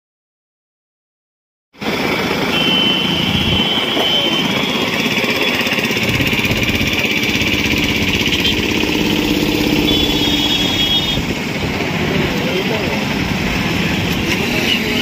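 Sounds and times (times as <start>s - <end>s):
motorcycle engines running: 1.8s - 15.0s
wind and road noise: 1.8s - 15.0s.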